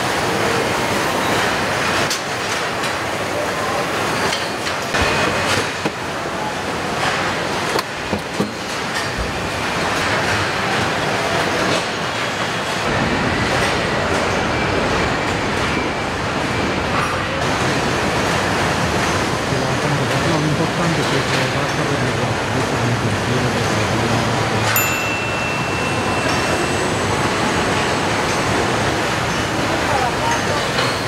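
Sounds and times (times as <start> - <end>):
conveyor and machinery clatter: 0.0 - 31.0.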